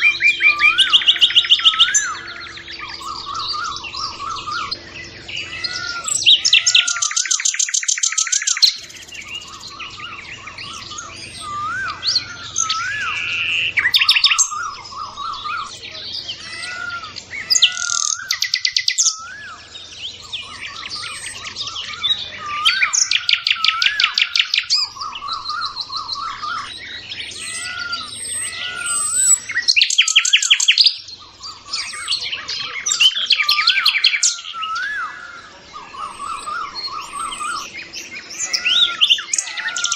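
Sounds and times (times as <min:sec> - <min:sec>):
bird trills: 0:00.0 - 0:39.9
whistled bird notes: 0:00.0 - 0:39.9.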